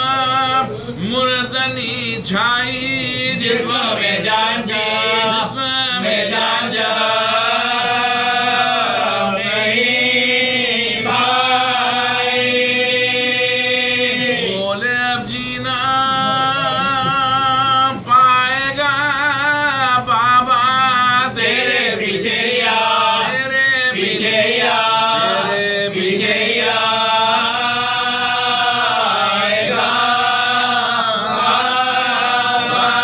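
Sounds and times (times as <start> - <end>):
men chanting: 0.0 - 33.0.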